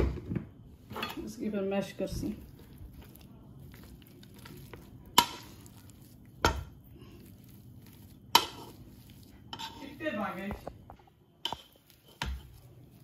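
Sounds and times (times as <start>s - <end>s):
potato masher mashing potatoes: 0.8s - 13.0s.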